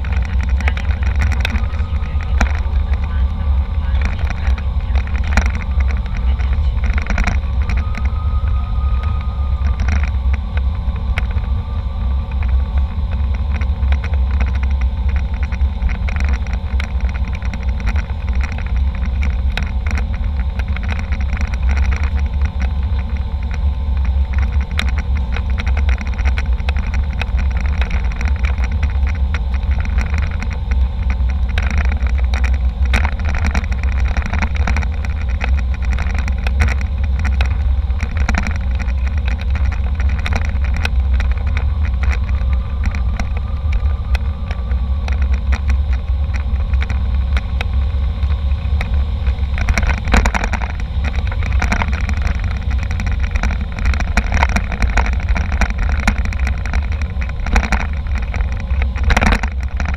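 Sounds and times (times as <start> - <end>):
airliner engines and airflow rumble: 0.0 - 59.9
small clicks and rattles: 0.0 - 59.9.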